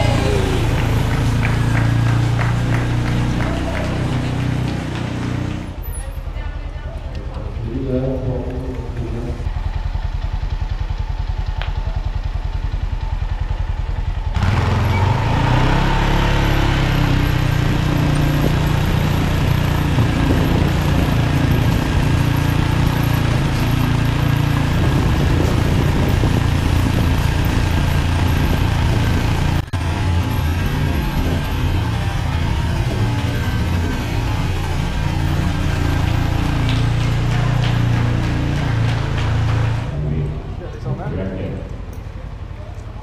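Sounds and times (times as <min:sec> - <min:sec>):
quad engine running: 0:00.0 - 0:43.0.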